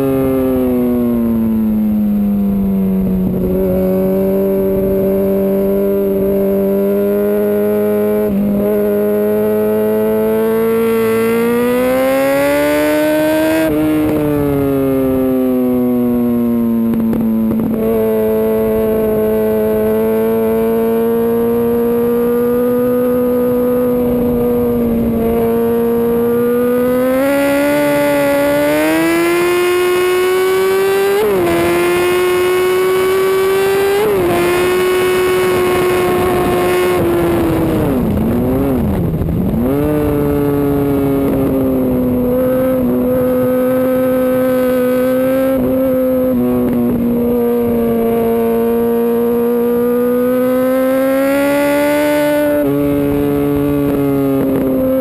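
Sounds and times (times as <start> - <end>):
motorcycle engine revving: 0.0 - 55.0
wind rushing over microphone: 0.0 - 55.0.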